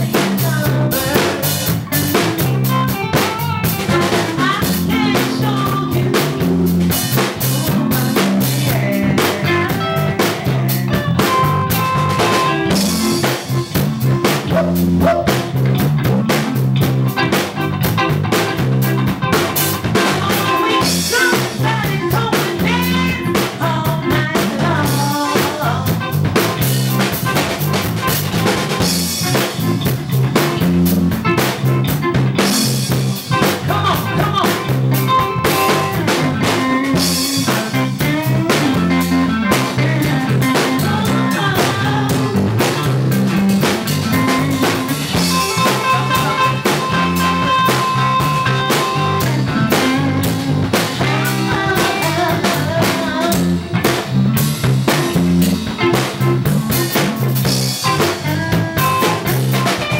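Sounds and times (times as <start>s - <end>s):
bass guitar lines: 0.0s - 59.9s
drum kit beat with rimshots: 0.0s - 59.9s
electric guitar: 0.0s - 59.9s.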